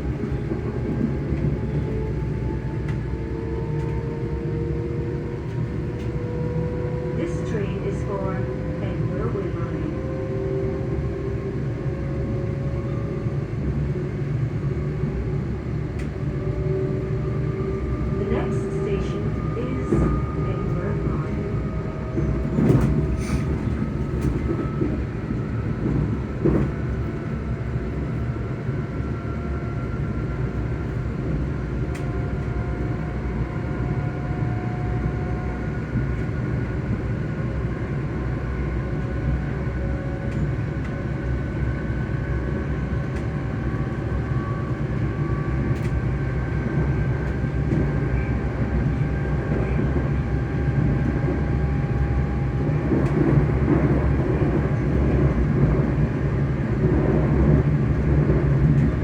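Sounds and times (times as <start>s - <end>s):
electric train motors humming: 0.0s - 59.0s
running train rumble: 0.0s - 59.0s.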